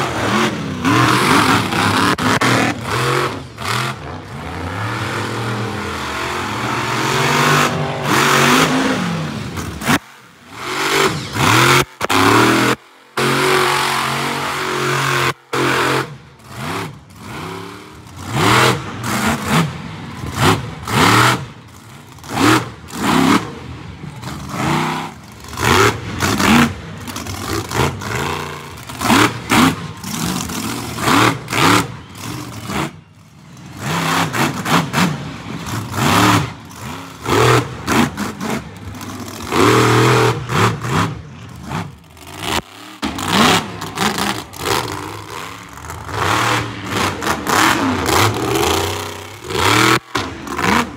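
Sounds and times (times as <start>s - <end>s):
truck engines revving: 0.0s - 50.9s.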